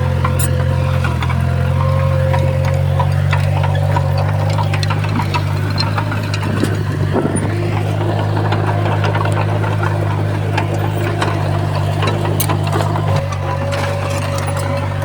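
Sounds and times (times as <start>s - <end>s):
bulldozer diesel engine: 0.0s - 15.0s
sharp clicks and clanks: 0.0s - 15.0s.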